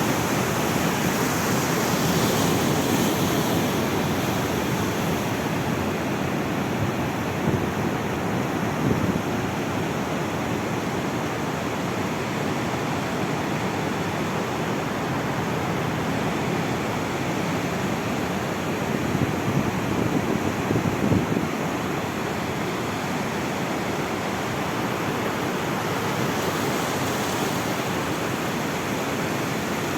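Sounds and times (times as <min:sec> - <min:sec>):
sea waves washing on shore: 0:00.0 - 0:29.9.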